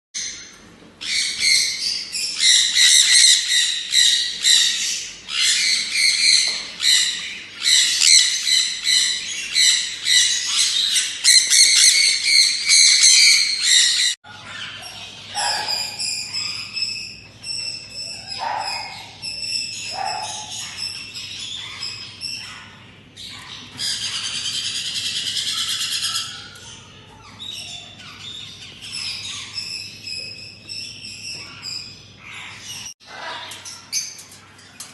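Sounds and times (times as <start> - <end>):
parrots chirping and squawking: 0.2 - 34.9.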